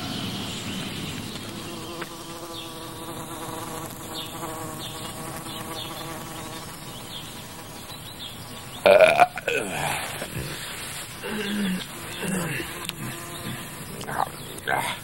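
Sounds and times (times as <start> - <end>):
insect buzzing: 0.0 - 15.0.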